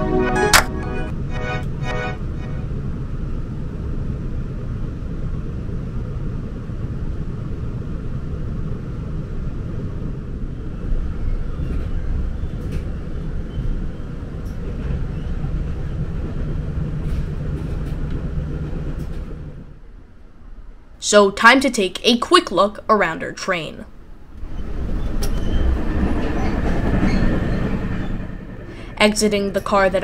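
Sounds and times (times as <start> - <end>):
wheels rumbling on rails: 0.0 - 20.9, 24.0 - 30.0.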